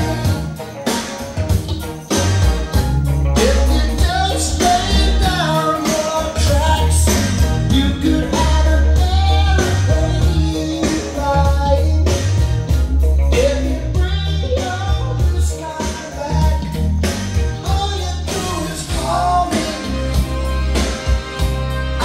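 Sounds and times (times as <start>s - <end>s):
rock song through speakers: 0.0s - 22.0s.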